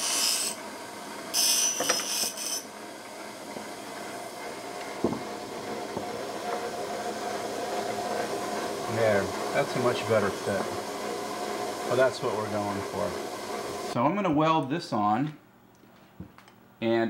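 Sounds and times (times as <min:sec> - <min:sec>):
grinder motor humming: 0:00.0 - 0:14.0
grinder wheel grinding steel: 0:00.0 - 0:14.0.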